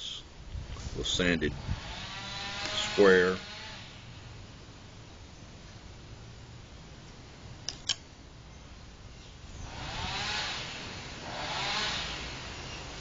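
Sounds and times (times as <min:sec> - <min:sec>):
low background hum: 0:00.0 - 0:11.3.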